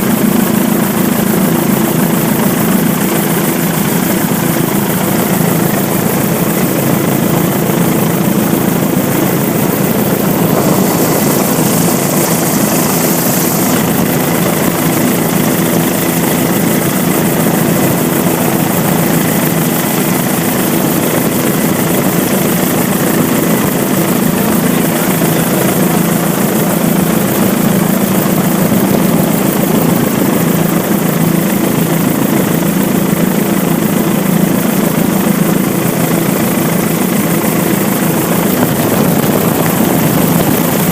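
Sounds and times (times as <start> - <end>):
helicopter drone: 0.0 - 40.9.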